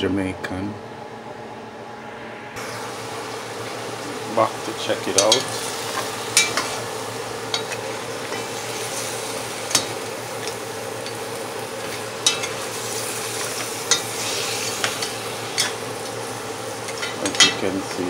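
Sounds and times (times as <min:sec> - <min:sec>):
meat sizzling in hot oil: 0:02.6 - 0:18.0.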